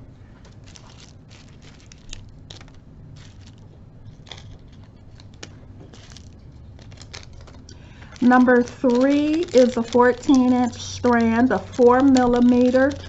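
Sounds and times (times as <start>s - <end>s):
plastic baggies crinkling: 0.3s - 13.0s.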